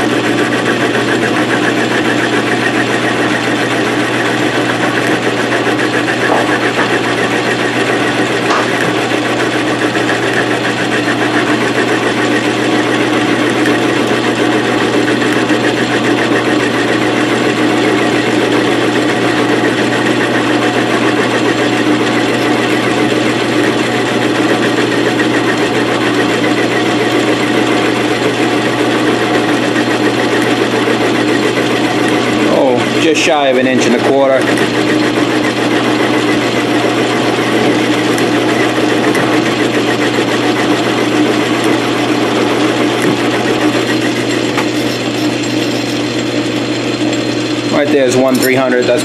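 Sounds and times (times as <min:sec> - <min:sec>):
lathe tool cutting metal: 0:00.0 - 0:49.0
metal lathe running: 0:00.0 - 0:49.0.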